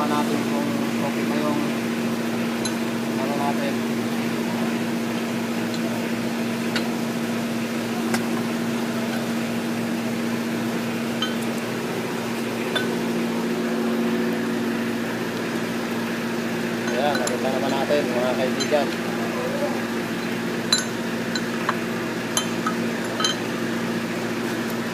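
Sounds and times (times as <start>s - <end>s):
steady machine hum: 0.0s - 24.9s.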